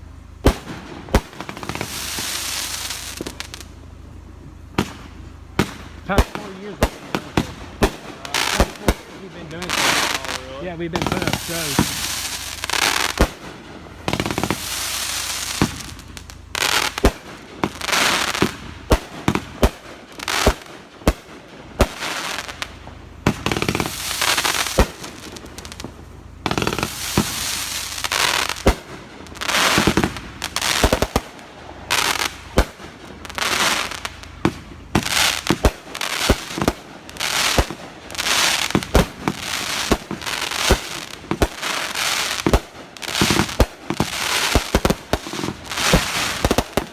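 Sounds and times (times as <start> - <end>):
fireworks bangs: 0.0 - 46.9
fireworks hissing and crackling: 0.0 - 46.9.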